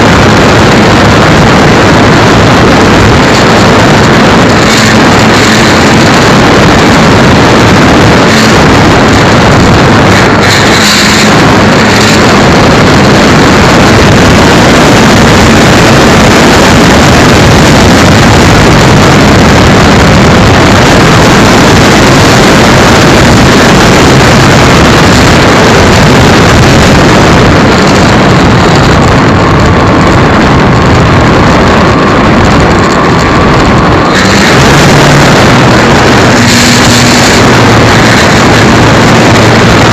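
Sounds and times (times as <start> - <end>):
faint steady whine: 0.0 - 39.9
model airplane motor and wind rush: 0.0 - 39.9.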